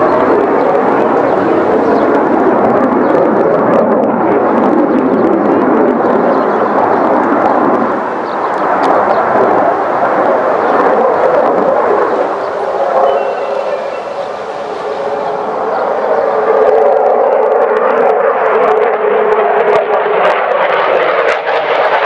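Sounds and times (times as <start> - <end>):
fighter jet flying overhead: 0.0 - 22.0.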